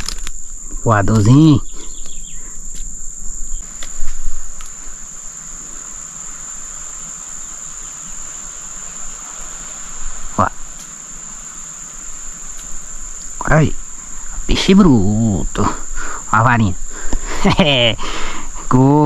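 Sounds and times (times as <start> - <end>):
insects buzzing drone: 0.0 - 19.0.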